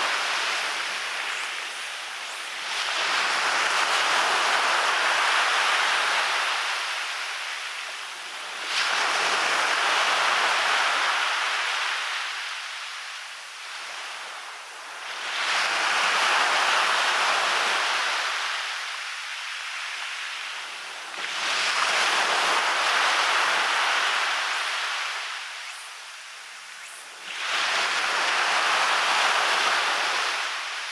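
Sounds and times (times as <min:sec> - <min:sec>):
waves breaking on beach: 0:00.0 - 0:30.9.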